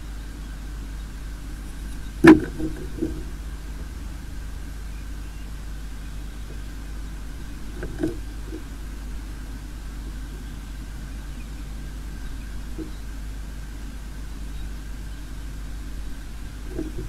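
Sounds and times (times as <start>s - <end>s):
thin high hum: 0.0s - 17.0s.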